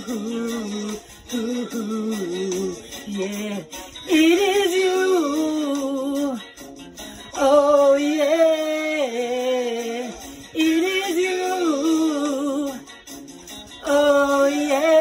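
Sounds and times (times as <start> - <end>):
person singing wordless melody: 0.0 - 13.0, 13.7 - 15.0.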